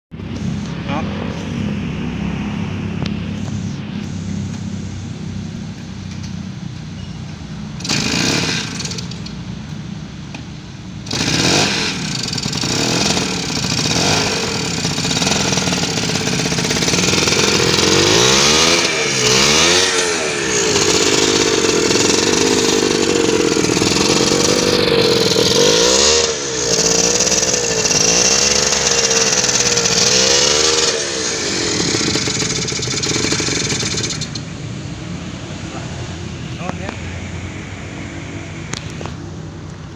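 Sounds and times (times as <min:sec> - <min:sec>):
motorcycle engine idling and revving: 0:00.1 - 0:39.9.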